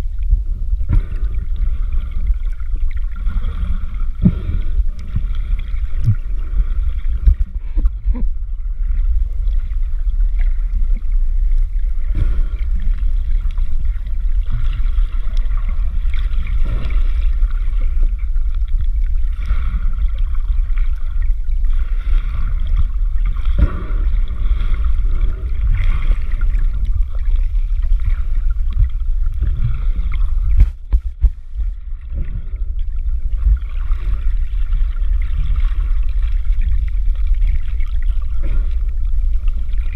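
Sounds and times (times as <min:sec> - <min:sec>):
muffled underwater rumble: 0:00.0 - 0:39.9
water gurgling: 0:00.0 - 0:39.9.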